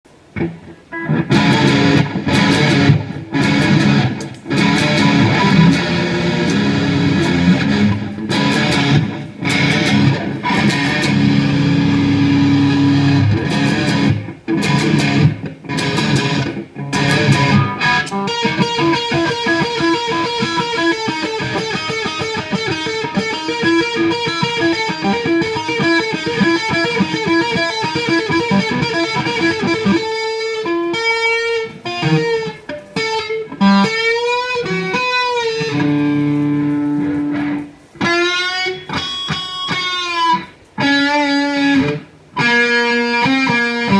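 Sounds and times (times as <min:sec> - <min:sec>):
electric guitar playing: 0:00.1 - 0:43.9.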